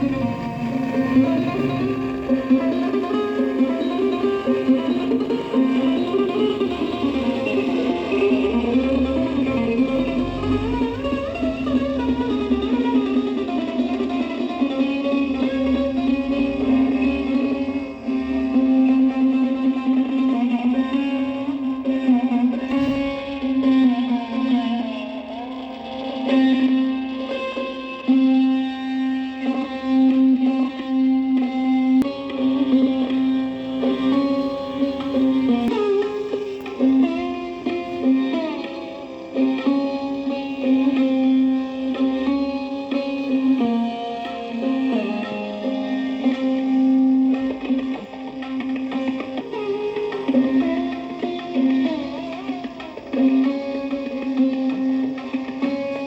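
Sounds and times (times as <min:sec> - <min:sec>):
plucked string music on radio: 0:00.0 - 0:56.0.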